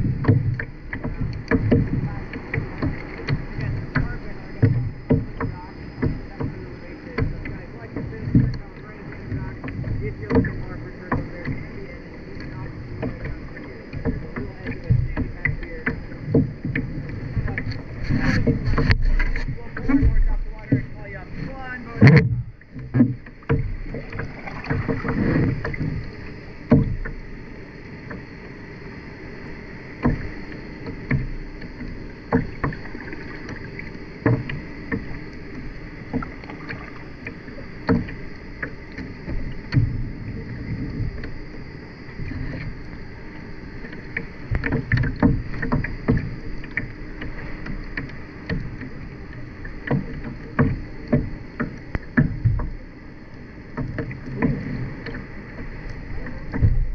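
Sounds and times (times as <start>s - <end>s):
knocks and thumps against hull: 0.0s - 56.9s
paddle splashes: 0.0s - 56.9s
water lapping: 0.0s - 56.9s.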